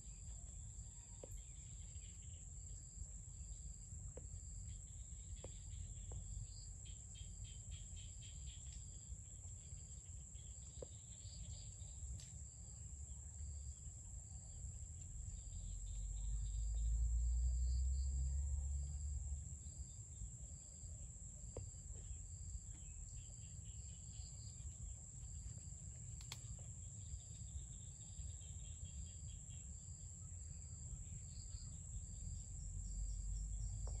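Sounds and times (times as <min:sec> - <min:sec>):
insect chirps: 0:00.0 - 0:34.0.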